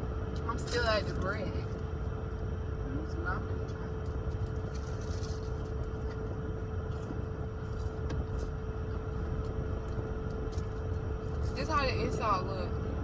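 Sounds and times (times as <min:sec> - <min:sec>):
car cabin engine hum: 0:00.0 - 0:13.0.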